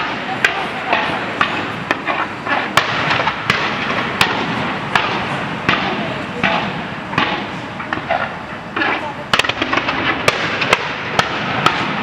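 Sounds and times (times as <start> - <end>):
crowd chatter: 0.0 - 12.0
fireworks banging: 0.0 - 12.0.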